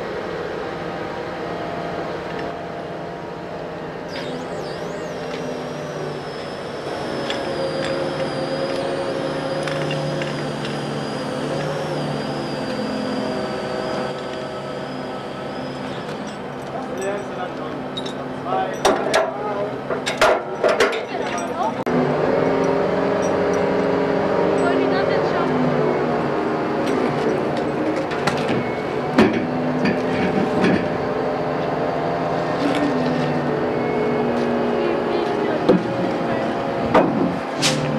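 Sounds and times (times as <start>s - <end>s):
diesel engine running: 0.0s - 18.7s, 21.1s - 37.9s
hoist whine: 0.0s - 37.9s.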